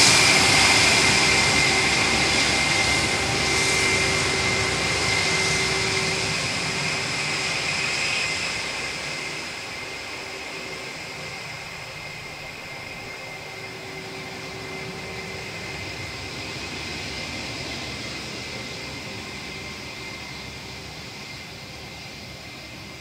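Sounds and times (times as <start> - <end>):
jet engines at take-off: 0.0 - 23.0.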